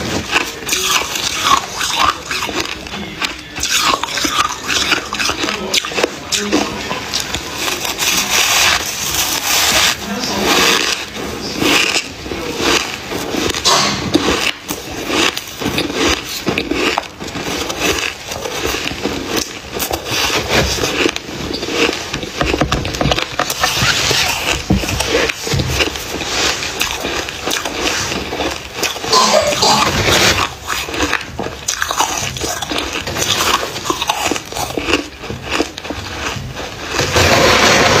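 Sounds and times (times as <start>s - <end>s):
frost crunching when chewed: 0.0s - 38.0s.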